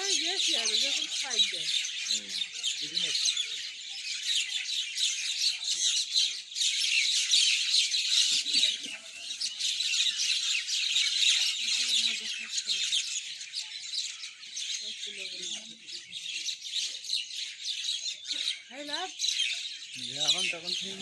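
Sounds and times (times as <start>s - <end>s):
flock of mynas chattering: 0.0s - 21.0s.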